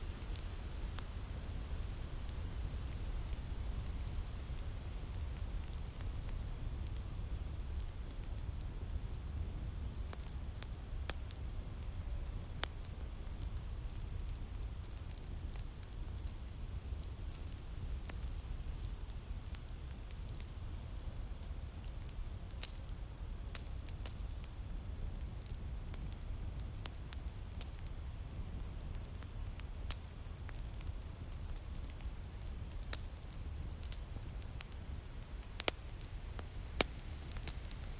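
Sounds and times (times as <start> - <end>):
fire crackling and popping: 0.0 - 37.9
low rumble of wind: 0.0 - 37.9.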